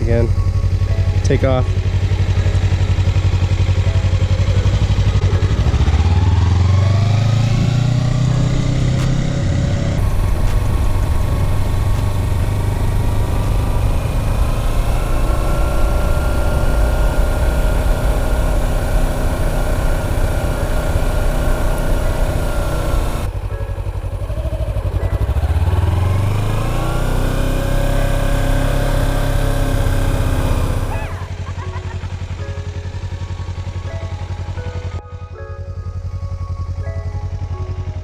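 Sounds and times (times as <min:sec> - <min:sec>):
motorcycle engine pulling away: 0:00.0 - 0:35.0.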